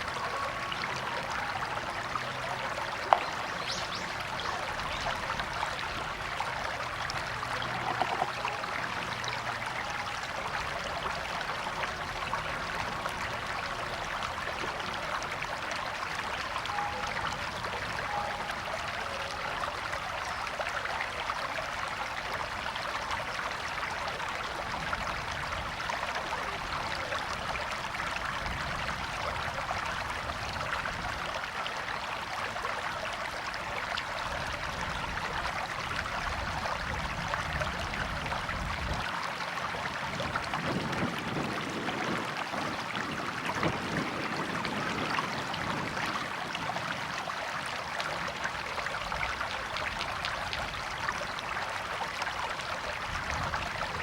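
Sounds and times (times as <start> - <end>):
stream water flowing and trickling: 0.0 - 54.0.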